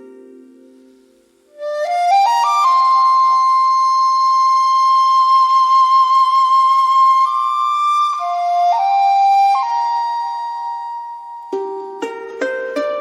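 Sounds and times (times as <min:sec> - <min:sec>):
bamboo flute notes: 0:00.0 - 0:13.0.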